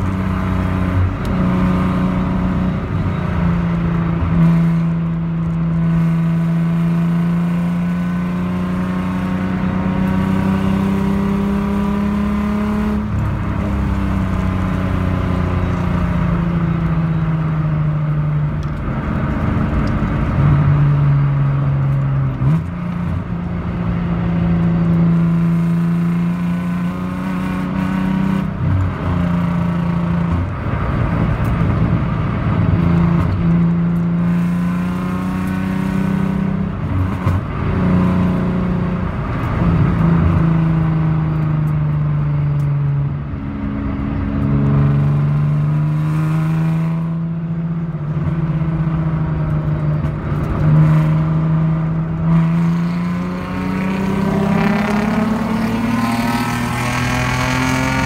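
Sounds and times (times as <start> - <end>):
car engine under load: 0.0 - 58.0.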